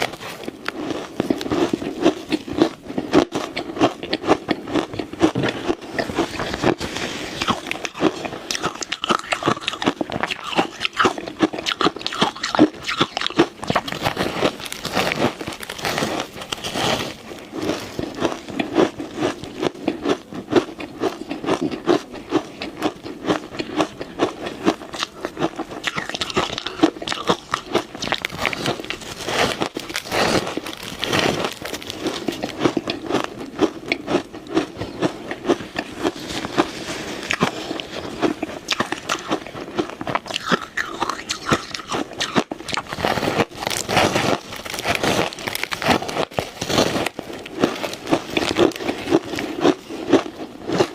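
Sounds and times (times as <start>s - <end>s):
ice crunched between teeth: 0.0s - 50.9s.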